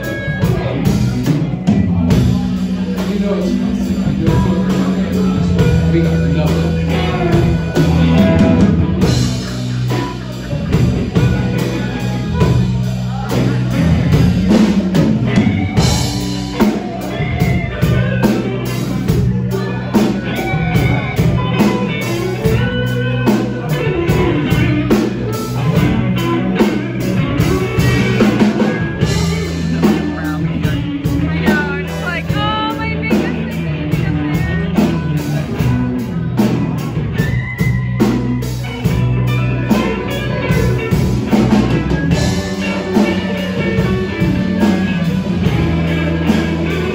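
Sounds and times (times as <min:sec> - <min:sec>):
lead part into microphone: 0:00.0 - 0:46.9
live blues band: 0:00.0 - 0:46.9.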